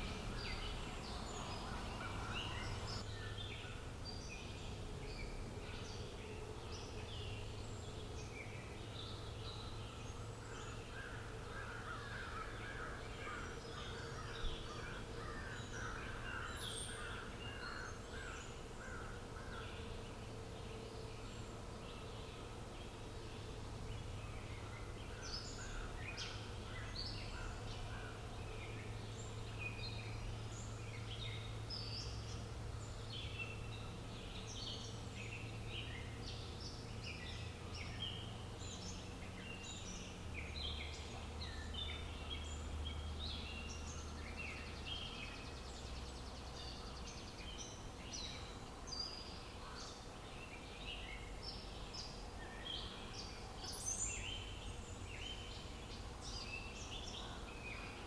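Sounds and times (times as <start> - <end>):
low steady hum: 0.0 - 58.0
wild birds chirping: 0.0 - 58.0.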